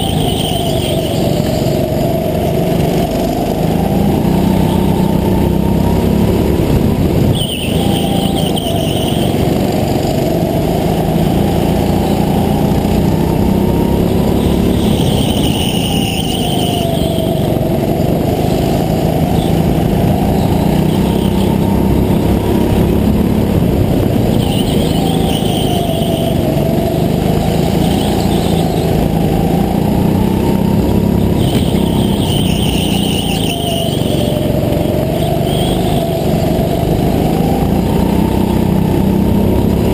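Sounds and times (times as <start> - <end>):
go-kart engine running hard: 0.0 - 39.9.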